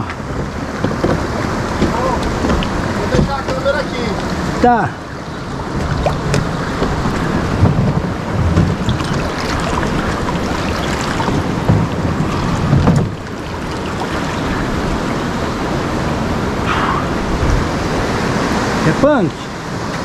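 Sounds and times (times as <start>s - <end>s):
river water rushing: 0.0s - 20.0s
wind buffeting microphone: 0.0s - 20.0s.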